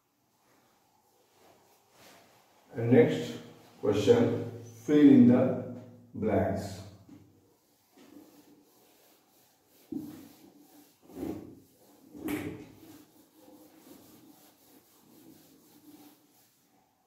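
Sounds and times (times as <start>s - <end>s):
duster wiping whiteboard: 0.3s - 5.8s, 6.6s - 17.0s.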